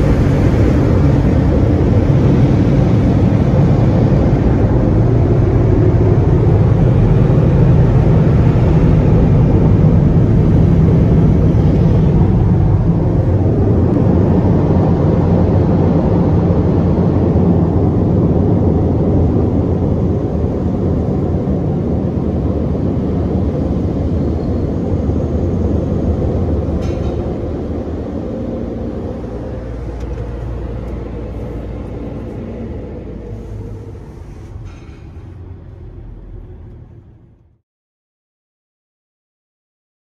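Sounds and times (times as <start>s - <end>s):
car wash rushing rumble: 0.0s - 37.5s.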